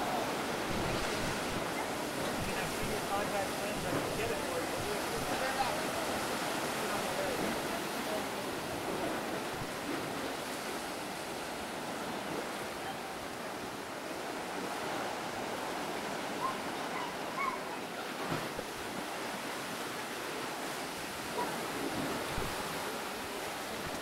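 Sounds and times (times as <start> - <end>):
surf breaking on rocky shore: 0.0 - 24.0.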